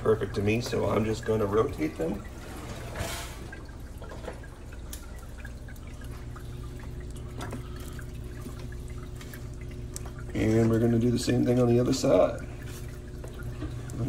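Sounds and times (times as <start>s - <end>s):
air fryer low hum: 0.0s - 14.0s.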